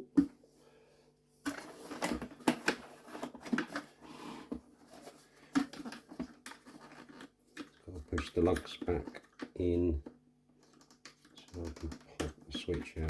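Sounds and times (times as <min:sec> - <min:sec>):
plastic parts clicking and knocking: 0:01.4 - 0:03.9, 0:05.0 - 0:13.0.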